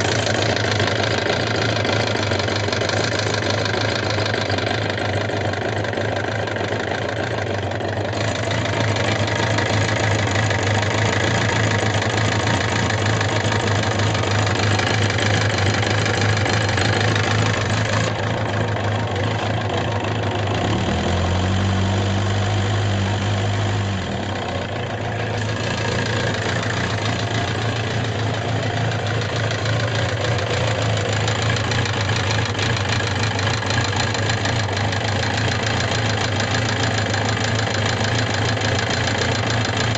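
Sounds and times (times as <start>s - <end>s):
motorcycle engine idling with ticking: 0.0s - 39.9s.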